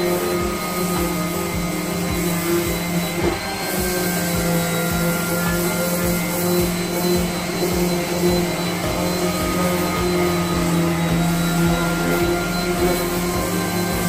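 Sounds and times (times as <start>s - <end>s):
orbital sander running: 0.0s - 14.0s.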